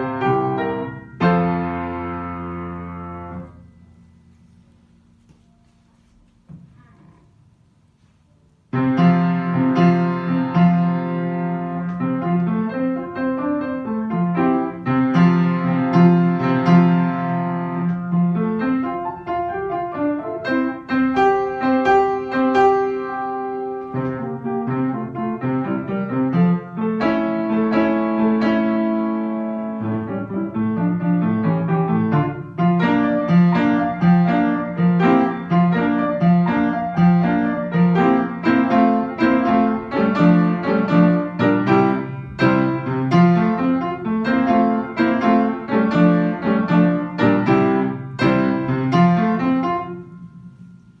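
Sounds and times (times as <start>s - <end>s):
solo classical piano: 0.0s - 51.0s.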